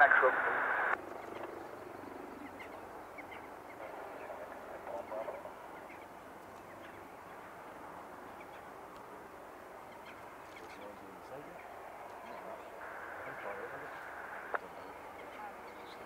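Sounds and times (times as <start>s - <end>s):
birds calling: 0.0s - 16.0s
steady background noise: 0.0s - 16.0s.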